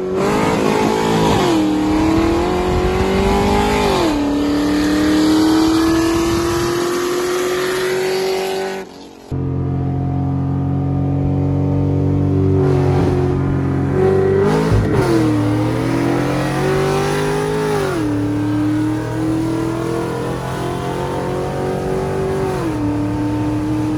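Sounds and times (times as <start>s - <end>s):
sports car accelerating hard: 0.0s - 23.9s.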